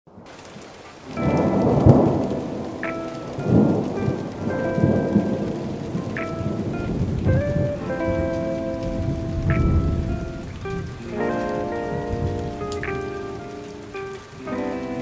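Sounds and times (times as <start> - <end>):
rain: 0.1 - 15.0
rolling thunder: 1.1 - 13.4
held musical notes: 1.1 - 15.0.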